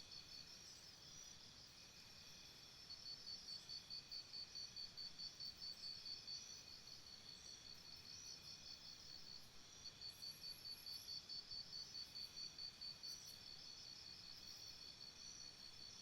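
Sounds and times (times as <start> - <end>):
insect chirping: 0.1 - 16.0.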